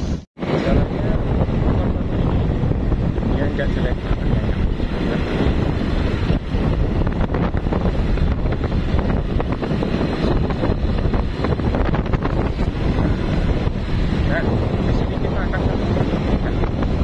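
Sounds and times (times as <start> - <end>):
vehicle low rumble on rough road: 0.0 - 17.0
wind buffeting microphone: 0.0 - 17.0.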